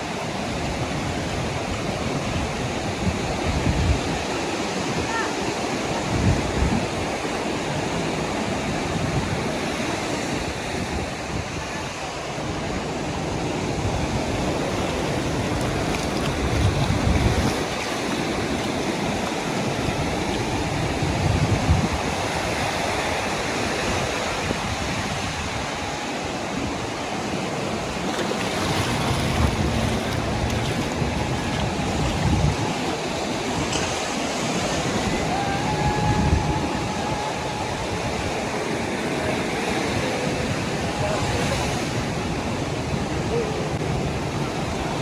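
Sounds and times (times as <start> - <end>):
sea waves washing on sand: 0.0 - 45.0
wind buffeting microphone: 0.0 - 45.0.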